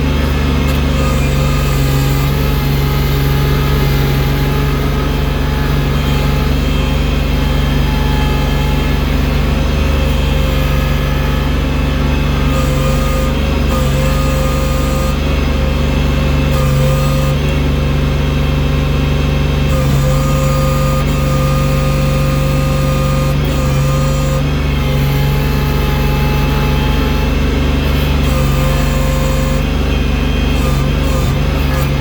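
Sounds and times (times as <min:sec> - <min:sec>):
loader engine running: 0:00.0 - 0:32.0.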